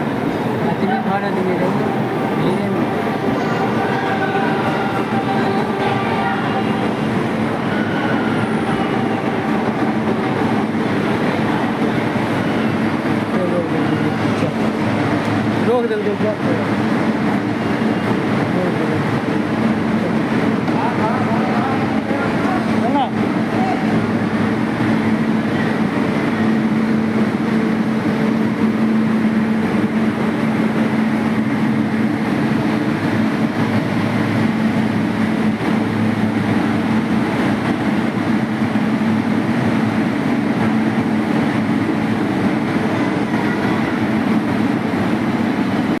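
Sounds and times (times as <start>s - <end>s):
train rumbling: 0.0s - 46.0s.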